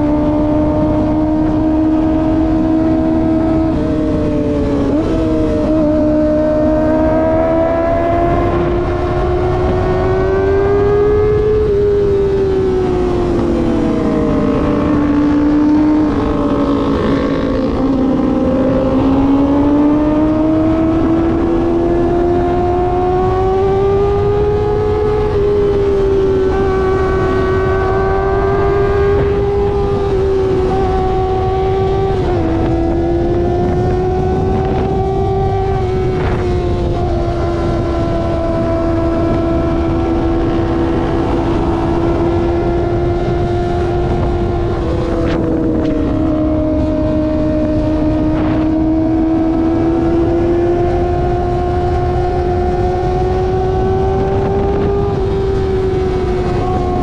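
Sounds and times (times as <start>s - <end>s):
motorcycle engine at cruising revs: 0.0s - 57.0s.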